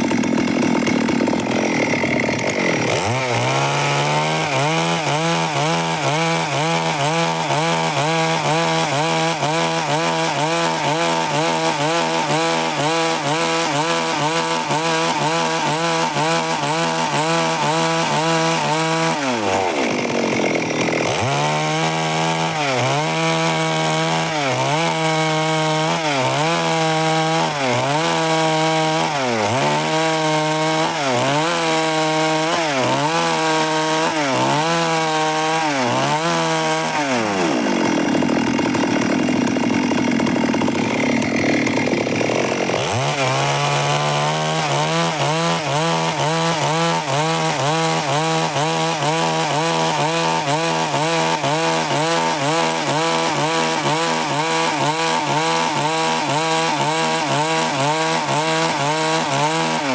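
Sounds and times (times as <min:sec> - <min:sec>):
chainsaw sawing through wood: 0:00.0 - 0:59.9.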